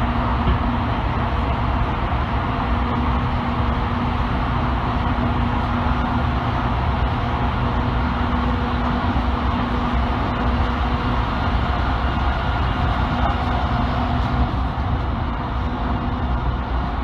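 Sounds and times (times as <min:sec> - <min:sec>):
constant low hum: 0:00.0 - 0:17.0
train wheels rumbling on rail: 0:00.0 - 0:17.0.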